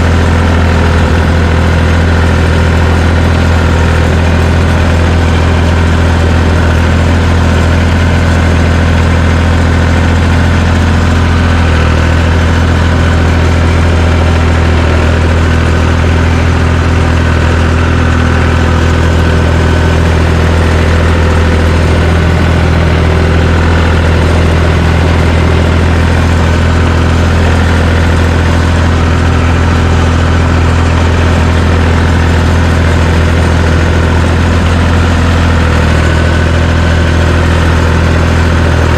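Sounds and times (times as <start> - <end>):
dozer engine running: 0.0 - 38.9.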